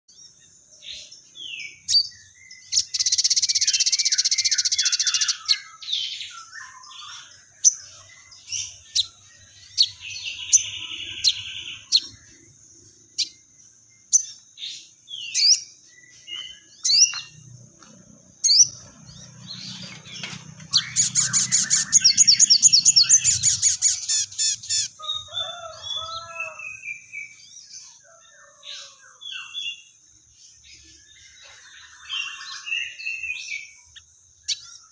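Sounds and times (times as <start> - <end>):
bird singing chattering song: 0.1 - 34.9.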